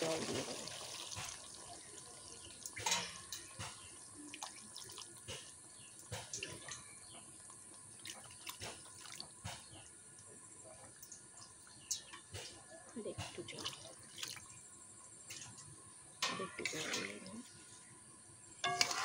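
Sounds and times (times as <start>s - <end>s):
gravy bubbling and spluttering in pan: 0.0s - 18.0s.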